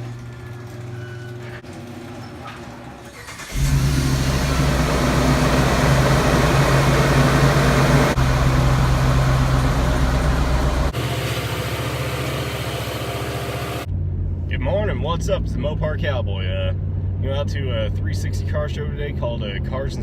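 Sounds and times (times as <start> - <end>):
car engine running: 3.4 - 20.0.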